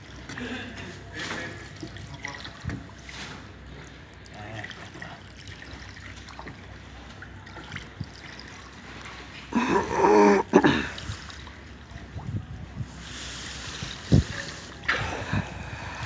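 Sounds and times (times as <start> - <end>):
water trickling and lapping: 0.0 - 16.0.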